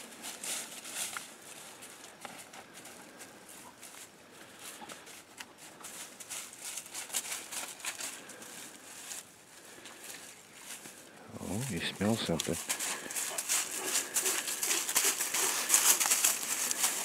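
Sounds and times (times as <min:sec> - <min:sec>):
footsteps on dry grass and leaves: 0:00.0 - 0:17.0.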